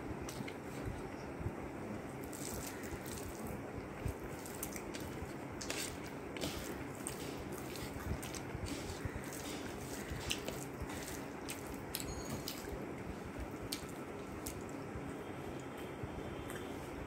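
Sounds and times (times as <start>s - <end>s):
low background noise: 0.0s - 17.0s
wet squishing and chewing: 0.2s - 1.2s, 2.2s - 14.9s.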